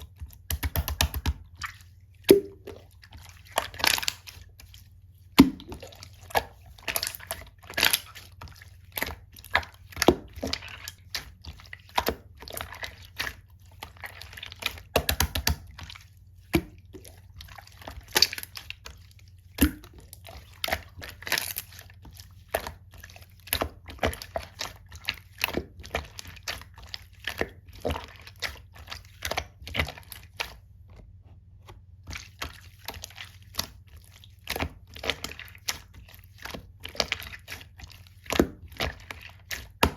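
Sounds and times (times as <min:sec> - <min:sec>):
slime squishing with sticky pops: 0:00.0 - 0:39.9.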